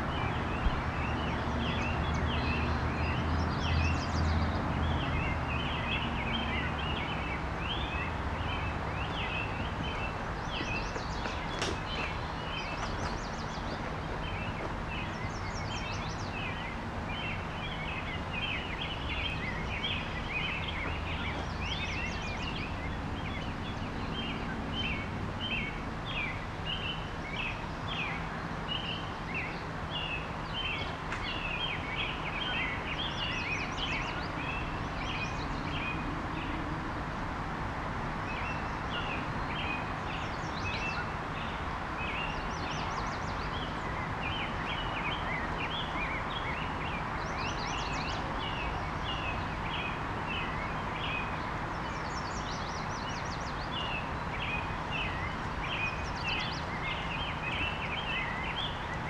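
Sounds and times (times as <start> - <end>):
birds chirping: 0.0 - 59.0
river water flowing: 0.0 - 59.0.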